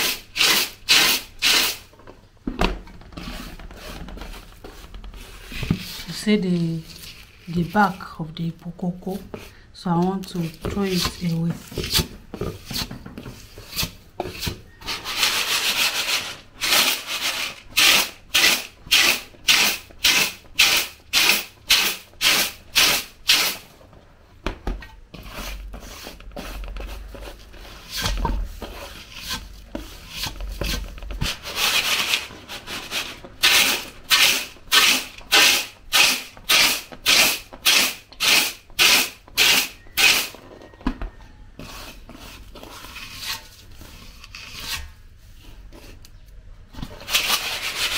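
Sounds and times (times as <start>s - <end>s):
hands scraping beans on metal tray: 0.0s - 1.9s, 3.2s - 23.7s, 25.1s - 40.5s, 41.6s - 46.2s, 46.8s - 47.9s.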